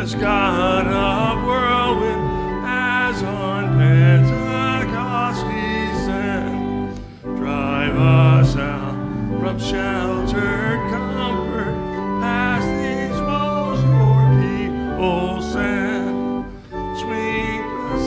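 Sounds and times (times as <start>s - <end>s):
organ chords: 0.0s - 18.0s
person singing hymn with vibrato: 0.0s - 18.0s.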